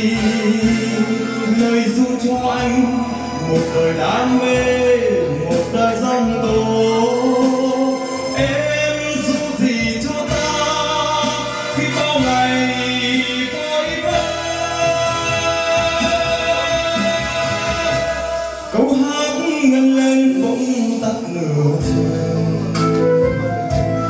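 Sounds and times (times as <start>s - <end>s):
man singing into microphone: 0.0s - 23.8s
instrumental accompaniment: 0.0s - 24.0s.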